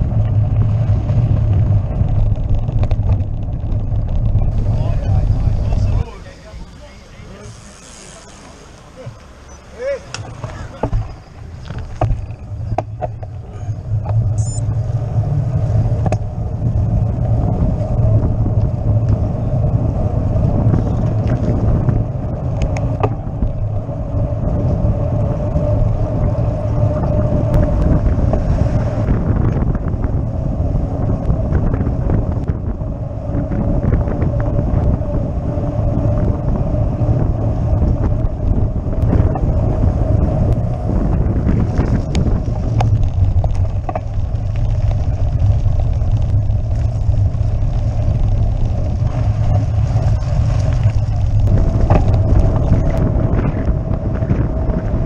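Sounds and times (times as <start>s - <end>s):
wind buffeting microphone: 0.0s - 8.0s, 9.1s - 55.0s
tyres rolling on asphalt: 0.0s - 55.0s.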